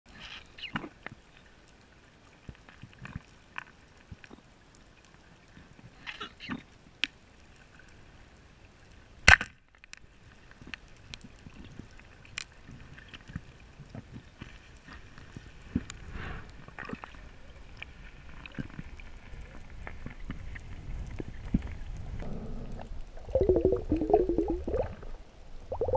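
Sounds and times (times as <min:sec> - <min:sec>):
faint underwater clicks and crackles: 0:00.1 - 0:25.9.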